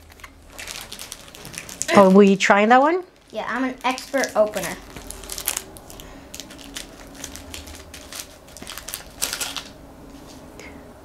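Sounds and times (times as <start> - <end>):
plastic packet crinkling: 0.0 - 9.8.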